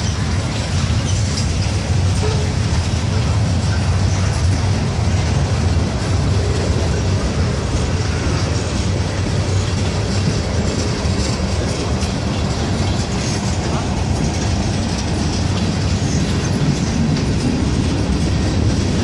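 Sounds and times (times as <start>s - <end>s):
freight train wheels rumbling on rail: 0.0s - 19.0s.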